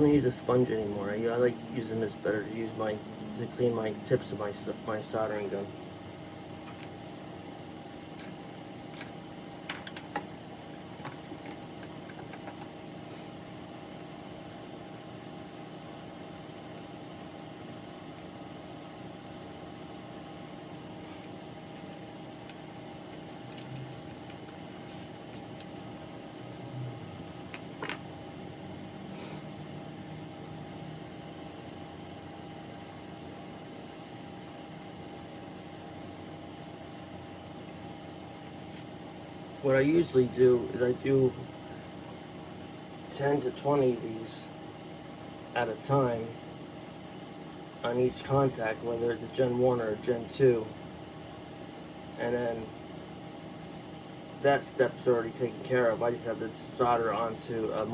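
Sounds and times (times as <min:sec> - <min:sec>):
steady mechanical hum: 0:00.0 - 0:57.9.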